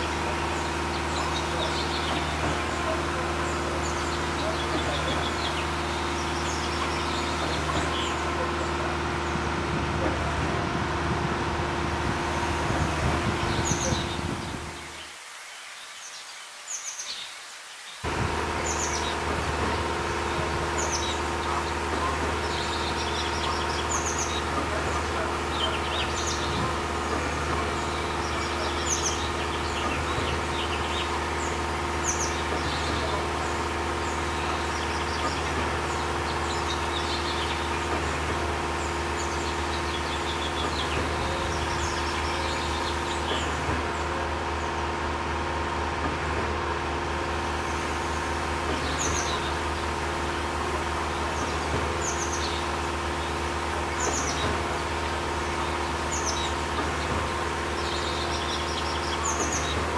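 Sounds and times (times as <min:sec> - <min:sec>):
steady background hum: 0:00.0 - 0:15.3, 0:18.0 - 0:59.9
birds chirping: 0:00.0 - 0:59.9.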